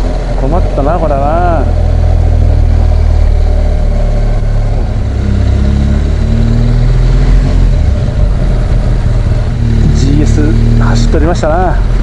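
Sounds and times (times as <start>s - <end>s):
low wind rumble: 0.0s - 12.0s
motorcycle engine running: 0.0s - 12.0s.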